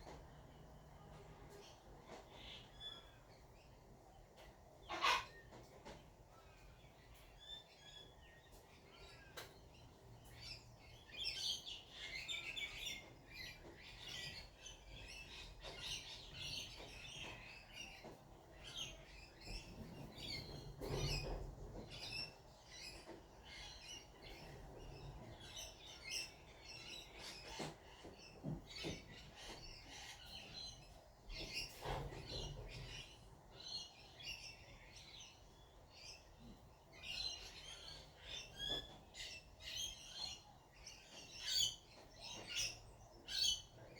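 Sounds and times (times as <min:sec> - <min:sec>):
birds chirping: 0:06.4 - 0:43.9.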